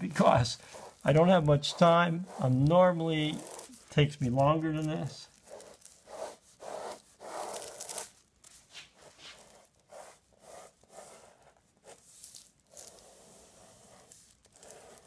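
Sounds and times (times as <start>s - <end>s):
pen scratching on paper: 0.0s - 8.2s, 8.8s - 15.0s.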